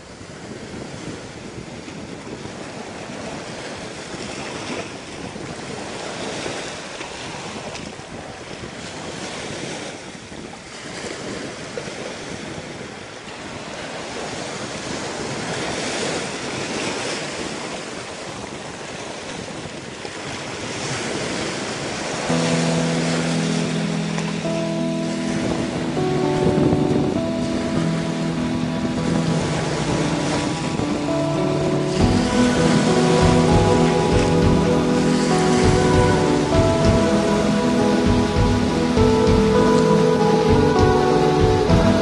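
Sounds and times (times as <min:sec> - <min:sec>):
waves breaking: 0:00.0 - 0:42.0
wind: 0:00.0 - 0:42.0.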